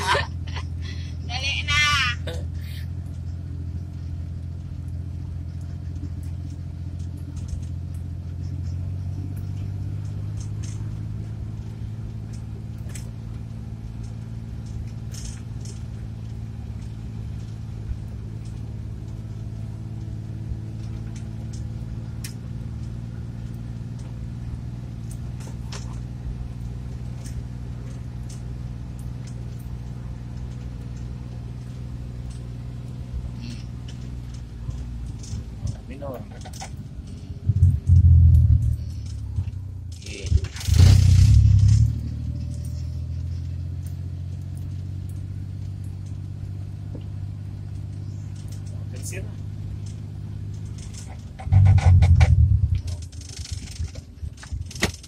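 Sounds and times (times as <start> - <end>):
van engine and road noise: 0.0 - 55.0
light rattles and clicks: 2.2 - 55.0.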